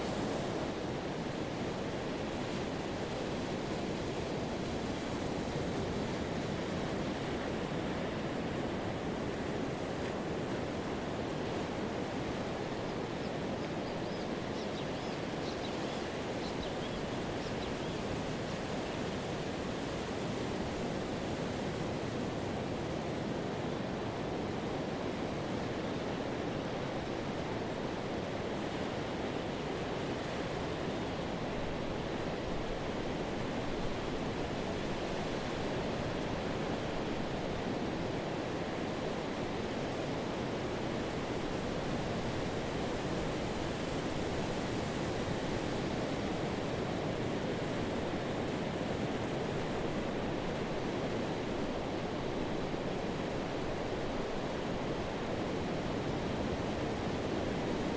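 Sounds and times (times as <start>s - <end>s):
waves washing up a beach: 0.0s - 57.9s.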